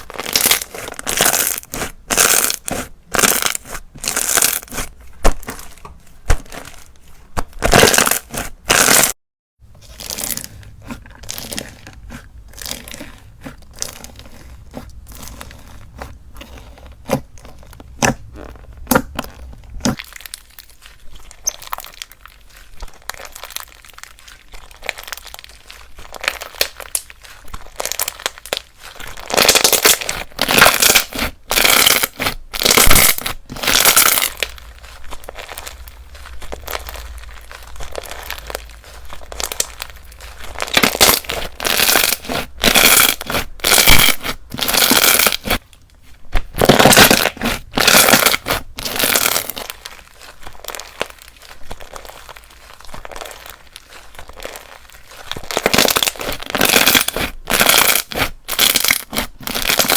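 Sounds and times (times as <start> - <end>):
slime squished by hand: 0.0 - 9.2, 9.8 - 59.9.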